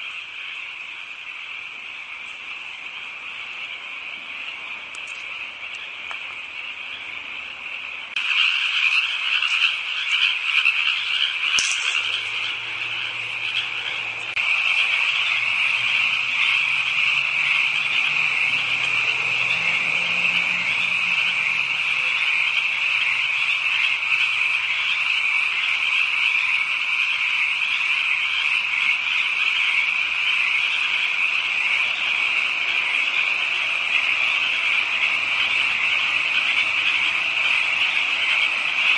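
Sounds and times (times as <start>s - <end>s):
frogs chorus calling: 0.0s - 38.9s.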